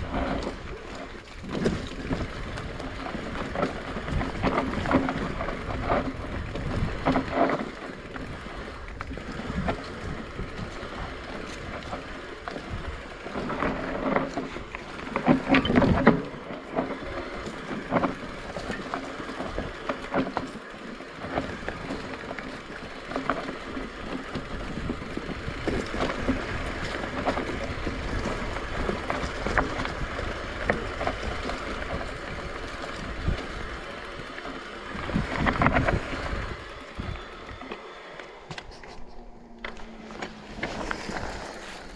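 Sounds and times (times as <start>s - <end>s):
bike frame and chain rattling: 0.0s - 41.9s
bike tyres rolling on dirt trail: 0.0s - 41.9s.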